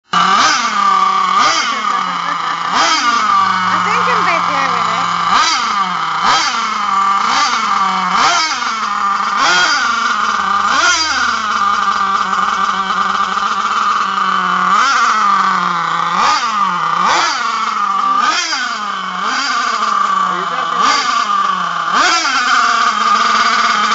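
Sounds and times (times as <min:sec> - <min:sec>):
small engine revving: 0:00.0 - 0:23.9.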